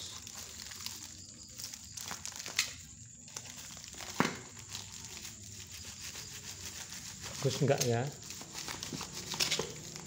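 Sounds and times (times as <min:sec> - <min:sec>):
paper and tape crinkling and tearing: 0:00.0 - 0:10.0.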